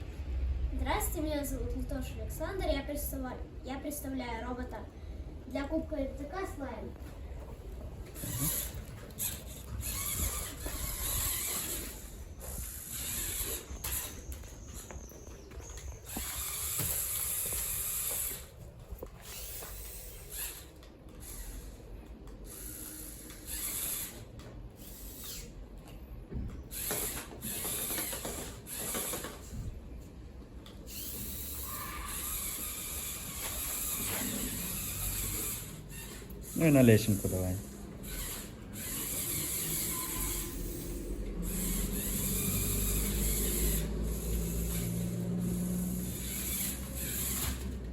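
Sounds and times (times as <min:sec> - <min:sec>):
robot electric motors whirring: 0:05.5 - 0:47.9.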